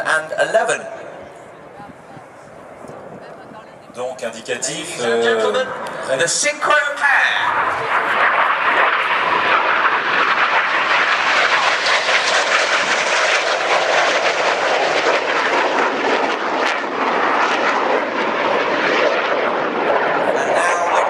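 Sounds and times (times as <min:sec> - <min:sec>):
jet flying past: 0:00.0 - 0:21.0.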